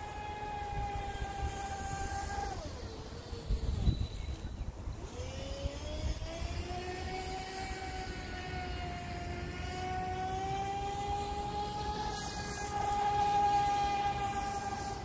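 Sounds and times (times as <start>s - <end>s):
model boat motor whining: 0.0s - 15.0s.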